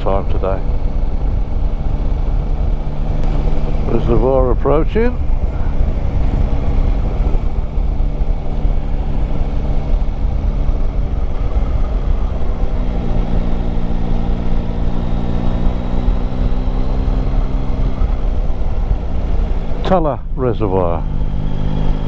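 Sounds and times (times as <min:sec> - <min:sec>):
motorcycle engine cruising: 0:00.0 - 0:22.0
wind rumble on microphone: 0:00.0 - 0:22.0.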